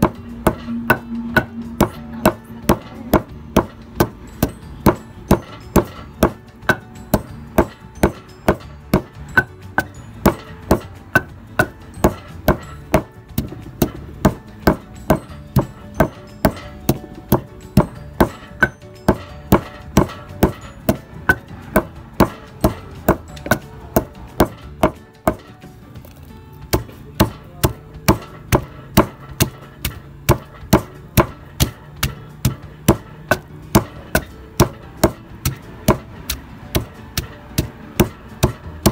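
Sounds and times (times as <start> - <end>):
pestle pounding in mortar: 0.0 - 38.9.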